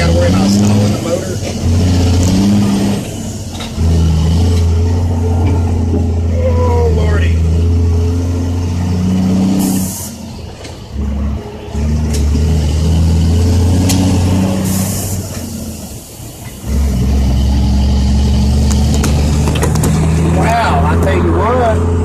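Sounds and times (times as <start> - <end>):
diesel truck engine running hard: 0.0 - 22.0.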